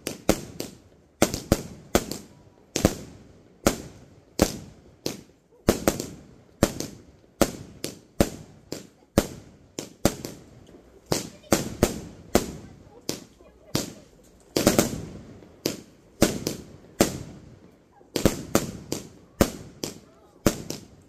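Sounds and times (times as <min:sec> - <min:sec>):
firework bangs: 0:00.0 - 0:21.0.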